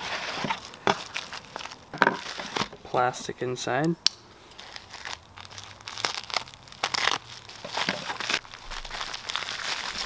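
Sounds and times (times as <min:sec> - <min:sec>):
plastic bag crinkling: 0:00.1 - 0:02.8, 0:04.5 - 0:10.0.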